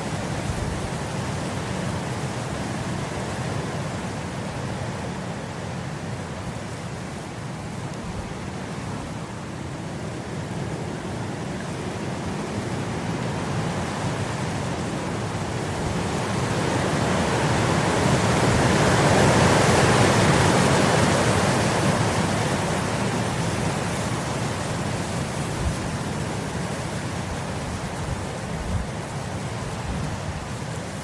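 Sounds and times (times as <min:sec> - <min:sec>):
wind blowing across grass: 0:00.0 - 0:31.0.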